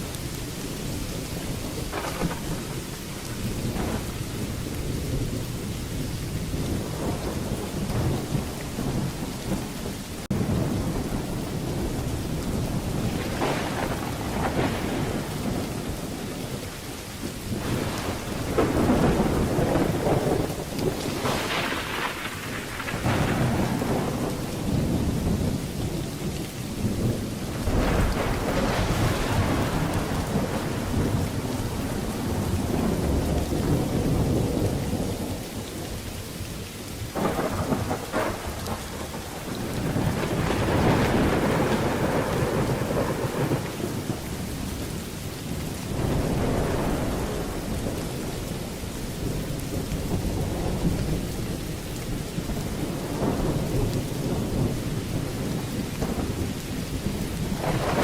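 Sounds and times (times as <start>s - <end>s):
rolling thunder: 0.0s - 58.0s
steady rain: 0.0s - 58.0s.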